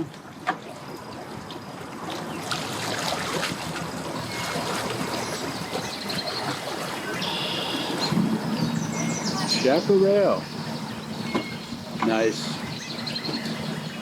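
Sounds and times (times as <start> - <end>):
water sloshing and trickling: 0.0 - 14.0.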